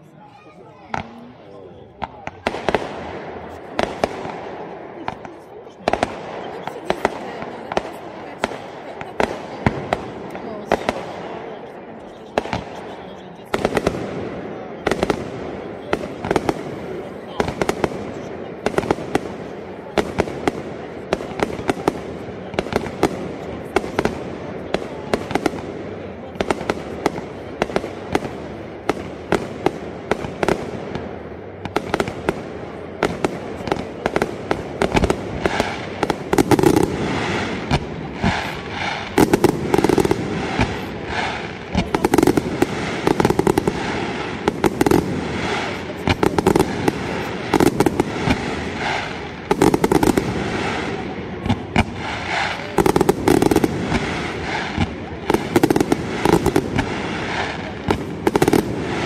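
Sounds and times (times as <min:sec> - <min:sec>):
fireworks bursts and bangs: 0:00.7 - 0:59.0
fireworks crackling: 0:00.8 - 0:59.0
heavy fireworks booms: 0:00.8 - 0:59.0.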